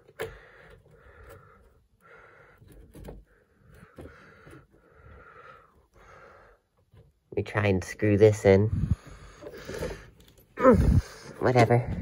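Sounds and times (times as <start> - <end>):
faint breathing: 0.0 - 7.1, 8.7 - 11.4.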